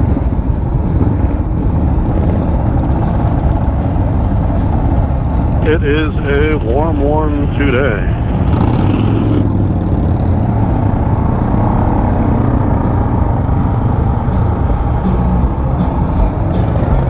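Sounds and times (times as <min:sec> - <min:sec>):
motorcycle engine drone: 0:00.0 - 0:17.0
wind rush: 0:00.0 - 0:17.0.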